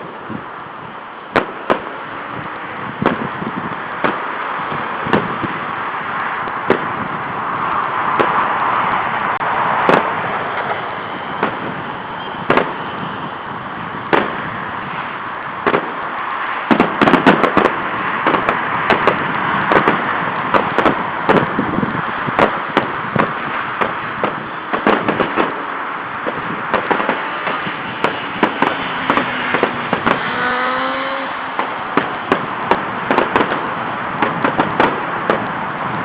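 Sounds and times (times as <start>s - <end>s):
background rush of noise: 0.0s - 36.0s
fireworks bangs: 0.0s - 36.0s.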